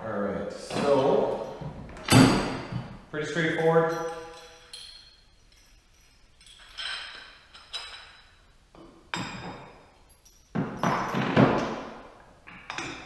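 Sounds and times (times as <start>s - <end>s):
metal hardware clinking and knocking: 0.7s - 13.0s.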